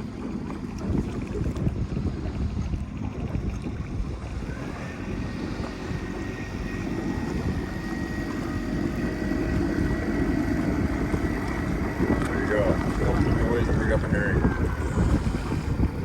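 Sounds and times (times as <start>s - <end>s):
motor whine and drone: 0.0s - 16.0s
wind rumble on microphone: 0.0s - 16.0s.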